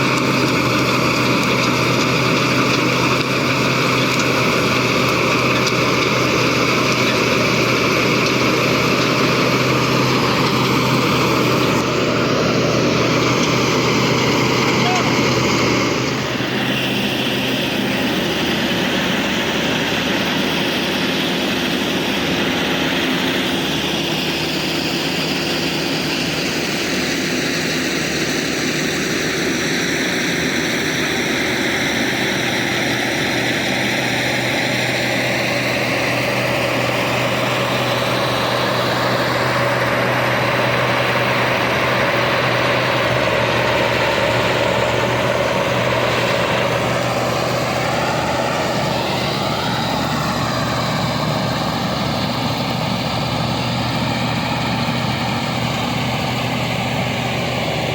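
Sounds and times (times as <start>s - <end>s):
heavy engine running: 0.0s - 57.9s.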